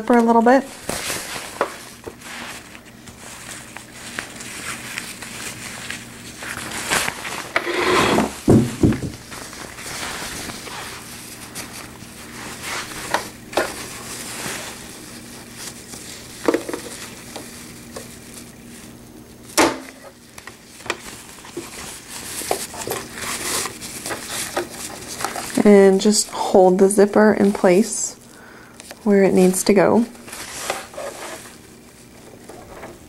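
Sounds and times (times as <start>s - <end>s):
fabric rustling and crinkling: 0.0s - 28.0s, 28.8s - 33.0s.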